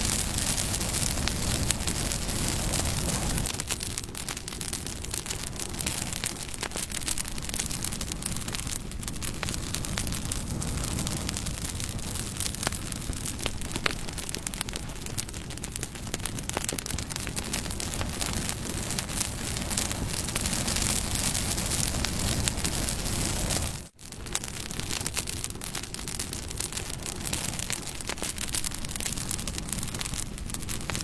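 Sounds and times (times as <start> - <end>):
bonfire crackling and popping: 0.0 - 31.0
flames rushing hiss: 0.0 - 31.0.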